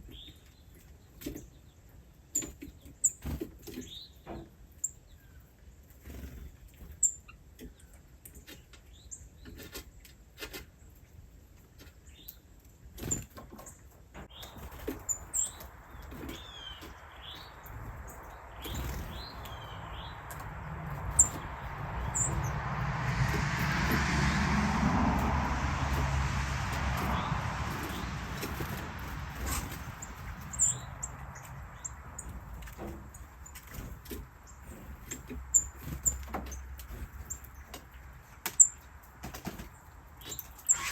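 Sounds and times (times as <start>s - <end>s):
small birds chirping: 0.0s - 11.0s, 11.7s - 24.1s, 25.2s - 40.9s.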